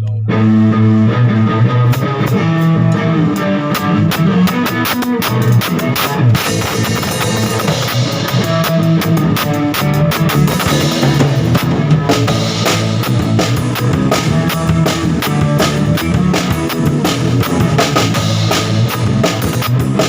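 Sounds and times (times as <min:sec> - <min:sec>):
rock music: 0:00.0 - 0:20.0.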